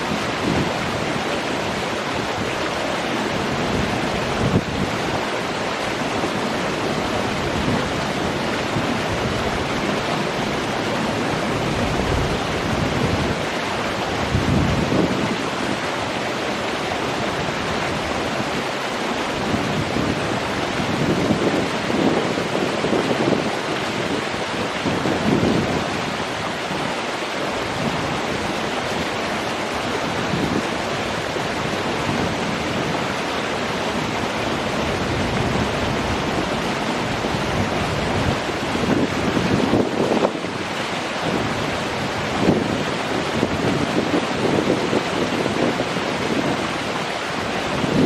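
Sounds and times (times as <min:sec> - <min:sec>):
running water rushing: 0:00.0 - 0:48.0.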